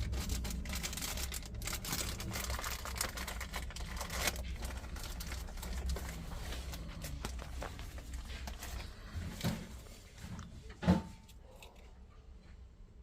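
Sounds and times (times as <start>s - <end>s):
rustling and crinkling: 0.0s - 11.9s
steady low hum: 0.0s - 13.0s.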